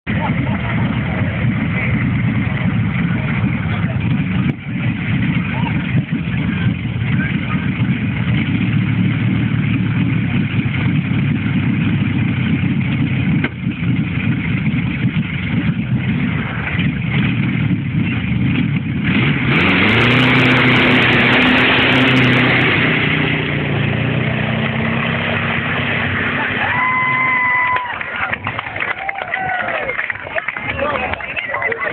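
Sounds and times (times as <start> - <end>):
aero engine rumbling: 0.0 - 31.9.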